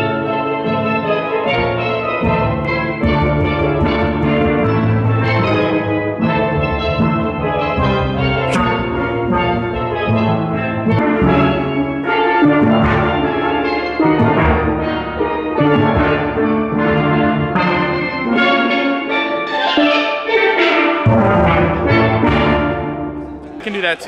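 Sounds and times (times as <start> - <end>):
steel drum band playing: 0.0 - 24.0.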